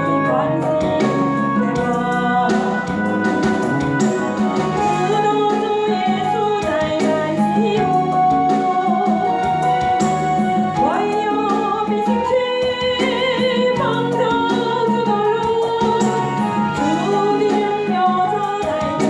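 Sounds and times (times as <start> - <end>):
instrumental accompaniment: 0.0 - 19.0
person singing with vibrato: 0.0 - 19.0.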